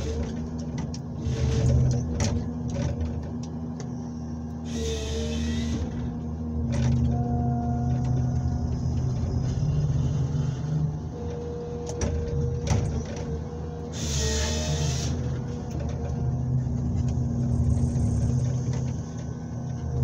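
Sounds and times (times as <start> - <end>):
diesel engine running under load: 0.0 - 20.0
hydraulic whine: 3.8 - 20.0.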